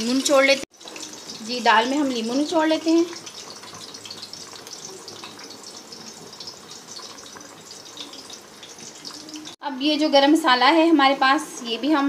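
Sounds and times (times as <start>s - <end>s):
chillies sizzling in hot oil: 0.0s - 12.0s.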